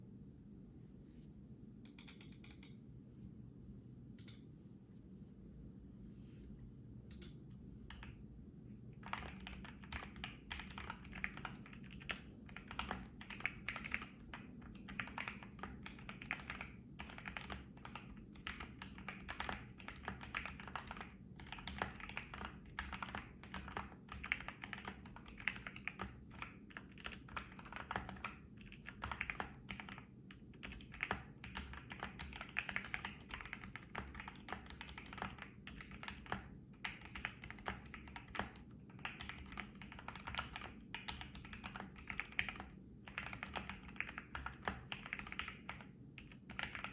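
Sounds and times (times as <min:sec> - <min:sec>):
typing on mechanical keyboard: 0:07.1 - 0:08.2, 0:09.0 - 0:46.9.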